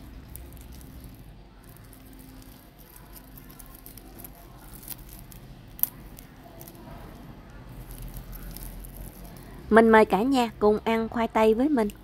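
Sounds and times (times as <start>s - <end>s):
potato chips crackling: 0.0s - 9.9s.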